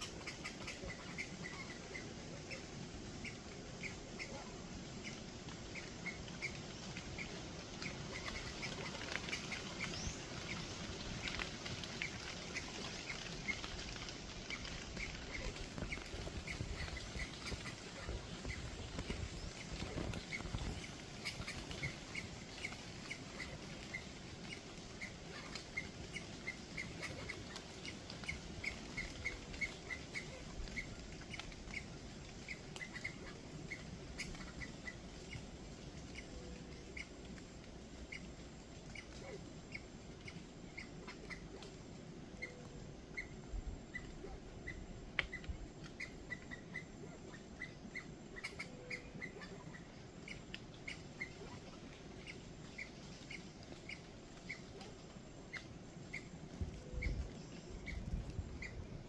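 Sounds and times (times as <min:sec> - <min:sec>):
small animal chirping: 0:00.0 - 0:59.0.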